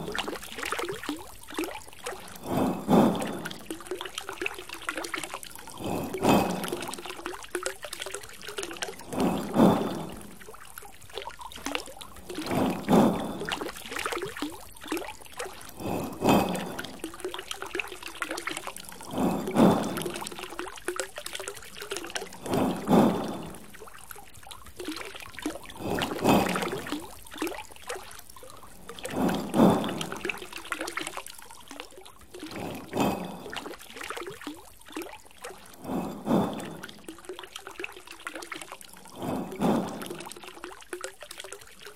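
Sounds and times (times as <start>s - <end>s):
water trickling into fountain basin: 0.0s - 41.9s.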